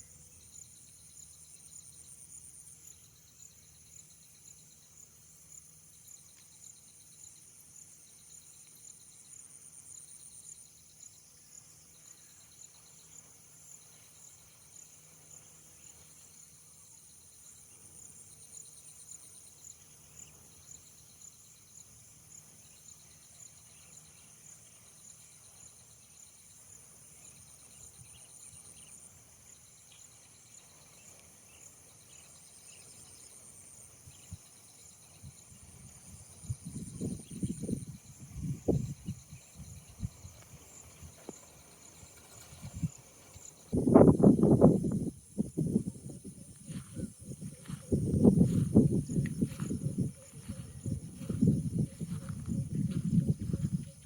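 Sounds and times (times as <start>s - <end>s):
high-pitched insect trill: 0.0s - 54.0s
lower insect trill: 0.0s - 54.0s.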